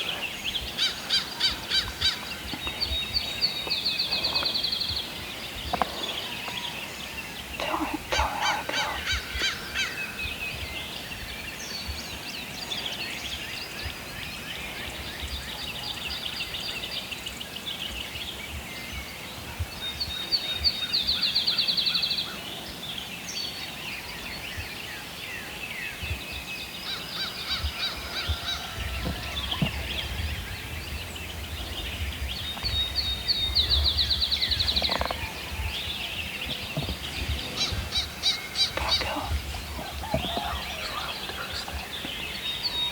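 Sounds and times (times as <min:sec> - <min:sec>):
birds calling and singing: 0:00.0 - 0:42.9.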